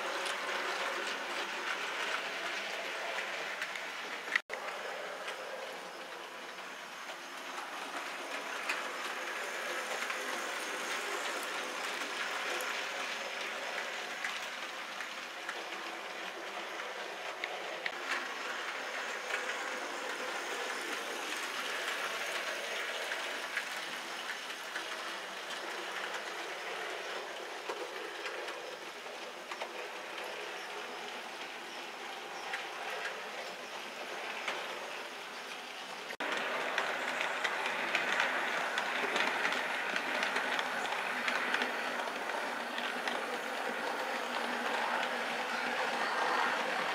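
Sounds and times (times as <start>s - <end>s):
model train wheels on rails: 0.0s - 46.9s.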